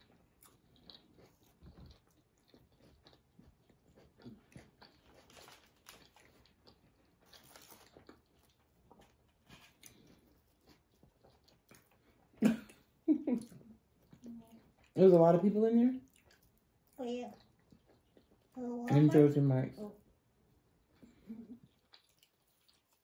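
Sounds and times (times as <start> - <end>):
chewing and crunching: 0.0 - 15.3, 16.0 - 19.1, 20.9 - 23.0.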